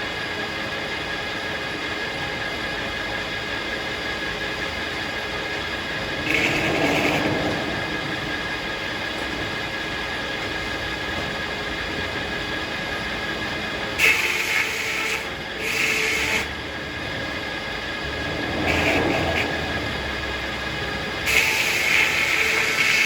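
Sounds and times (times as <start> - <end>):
circular sawmill running: 0.0 - 23.0.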